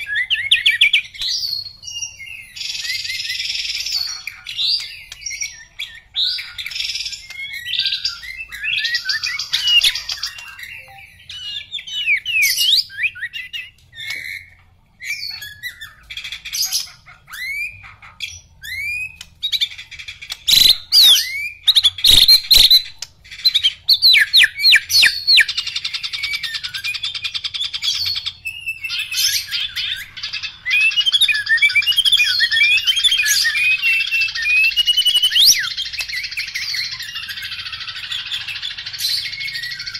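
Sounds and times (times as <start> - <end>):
bird singing and chattering: 0.0 - 39.9.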